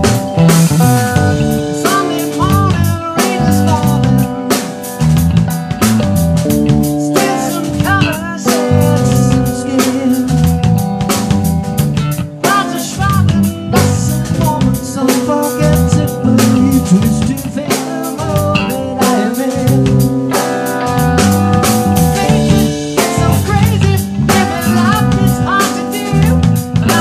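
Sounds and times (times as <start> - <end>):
gliding lead guitar notes: 0.0 - 27.0
rock band playing: 0.0 - 27.0.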